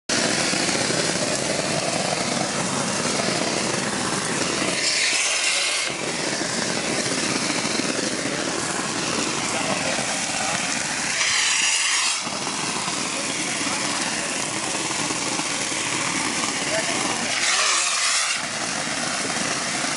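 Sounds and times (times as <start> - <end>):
concrete spraying hiss from hose: 0.1 - 19.9
pulsing drone of pump machinery: 0.1 - 19.9.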